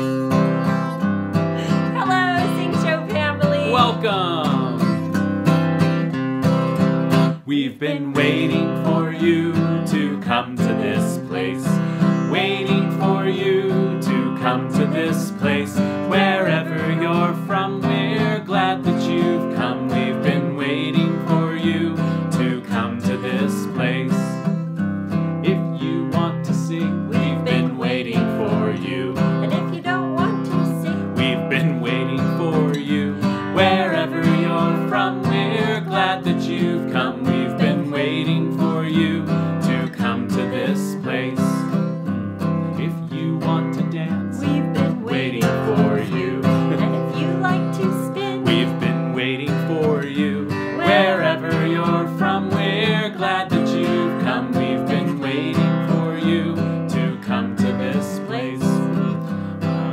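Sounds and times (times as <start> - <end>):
acoustic guitar strumming: 0.0 - 59.9
man and woman singing: 0.6 - 5.2, 7.4 - 24.5, 25.4 - 41.8, 42.7 - 59.9.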